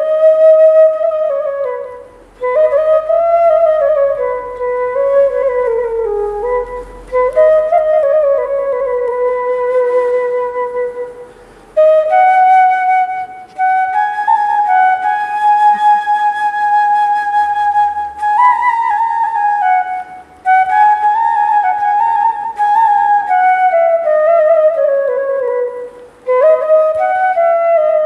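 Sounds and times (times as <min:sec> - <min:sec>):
bamboo flute melody: 0:00.0 - 0:28.0.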